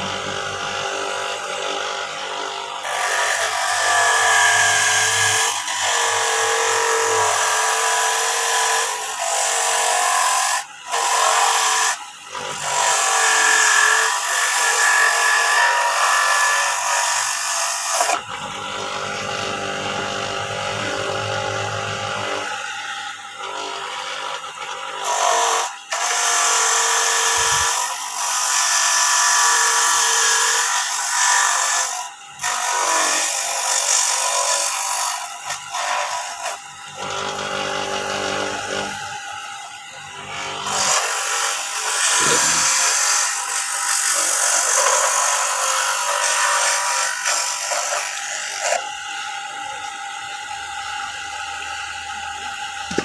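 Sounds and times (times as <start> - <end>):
electric coconut grater running: 0.0 - 53.0.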